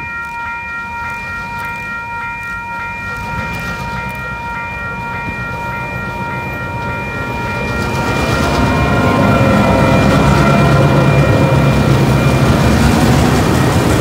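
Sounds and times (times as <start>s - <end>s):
level crossing bell ringing: 0.0s - 14.0s
train rumble: 0.0s - 14.0s.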